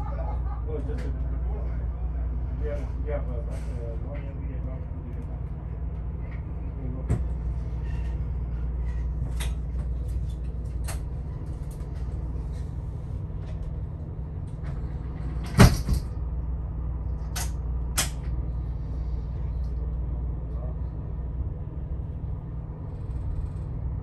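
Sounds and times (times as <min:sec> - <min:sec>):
low rumble of moving train: 0:00.0 - 0:24.0.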